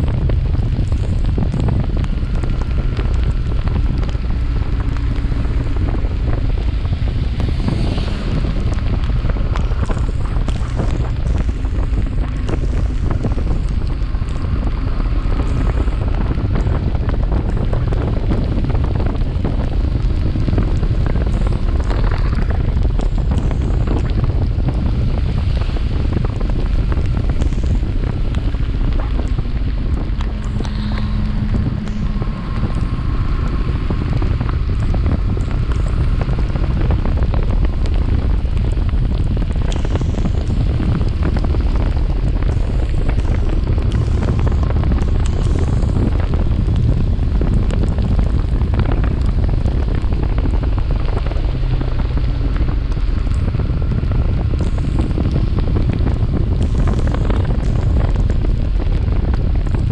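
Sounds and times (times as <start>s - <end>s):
road noise rumble: 0.0s - 59.9s
wind rushing over microphone: 0.0s - 59.9s.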